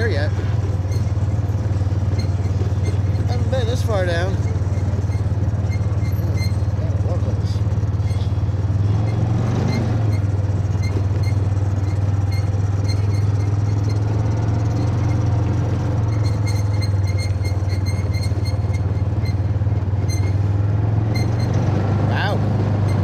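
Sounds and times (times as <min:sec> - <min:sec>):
road noise: 0:00.0 - 0:23.0
vehicle running hum: 0:00.0 - 0:23.0.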